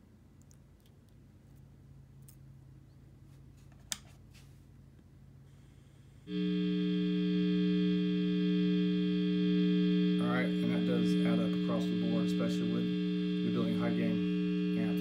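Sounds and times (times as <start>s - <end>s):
loud mains hum from amplifier: 2.9s - 15.0s.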